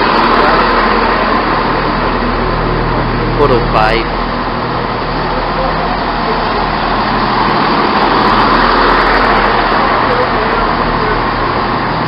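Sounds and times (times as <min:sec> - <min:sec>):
low hum: 0:00.0 - 0:12.0
train engine drone: 0:00.0 - 0:12.0.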